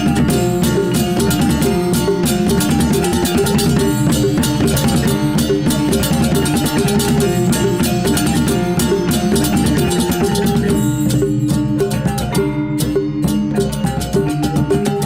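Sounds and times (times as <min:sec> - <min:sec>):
loud music with fast percussion: 0:00.0 - 0:15.0.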